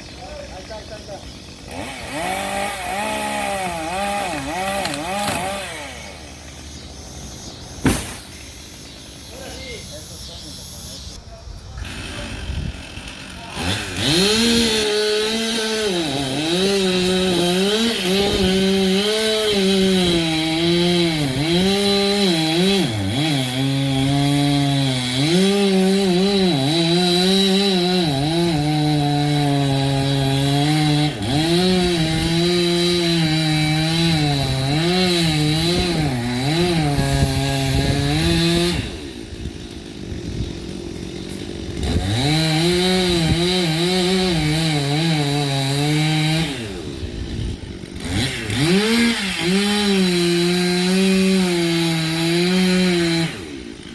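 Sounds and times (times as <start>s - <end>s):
chainsaw cutting wood: 0.0s - 9.4s, 11.8s - 53.9s.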